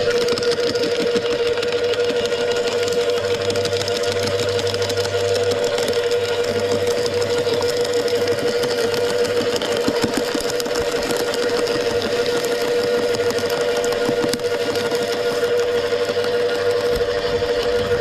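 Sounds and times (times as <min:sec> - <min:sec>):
branches crackling and splintering: 0:00.0 - 0:18.0
wood chipper humming: 0:00.0 - 0:18.0.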